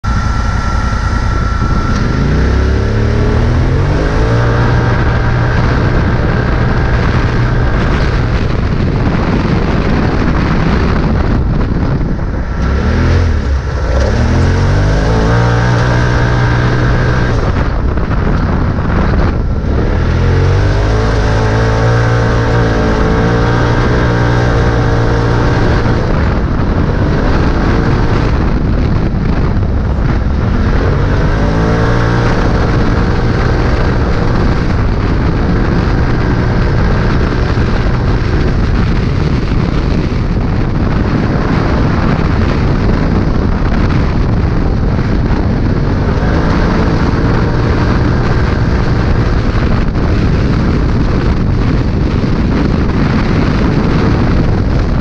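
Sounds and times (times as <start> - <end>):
engine under hard acceleration: 0.0 - 55.0
steady rushing noise: 0.0 - 55.0.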